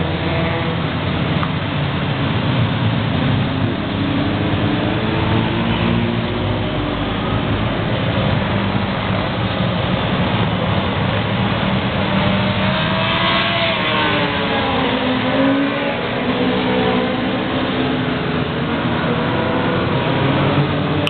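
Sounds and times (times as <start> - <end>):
motorcycles passing: 0.0 - 21.0.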